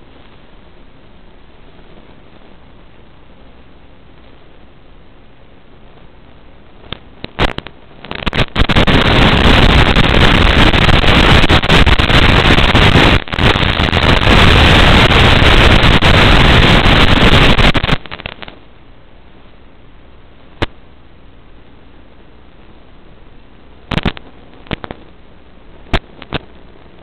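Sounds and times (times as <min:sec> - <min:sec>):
loud white-noise radio static: 0:00.0 - 0:27.0.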